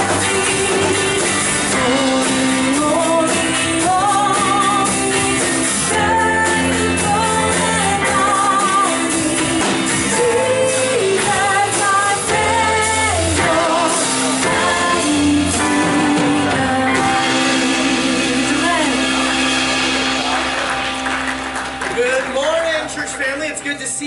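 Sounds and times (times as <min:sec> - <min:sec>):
voices singing: 0:00.0 - 0:20.0
worship band playing: 0:00.0 - 0:24.0.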